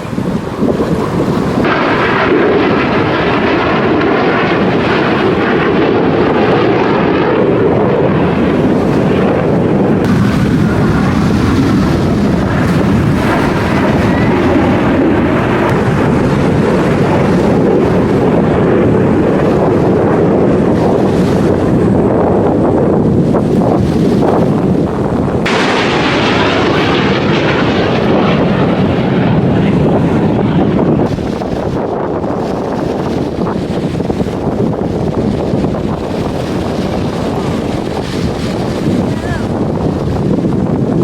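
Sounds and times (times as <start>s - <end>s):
aircraft engine rushing: 0.0s - 41.0s.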